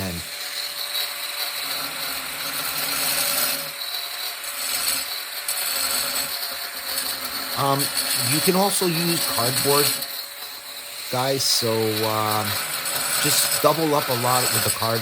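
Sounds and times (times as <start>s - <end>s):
angle grinder cutting stone: 0.0s - 15.0s.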